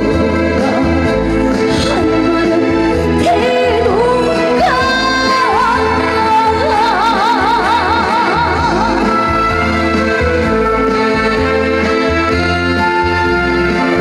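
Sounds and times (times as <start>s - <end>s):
backing band with steady beat: 0.0s - 14.0s
woman singing: 0.0s - 14.0s.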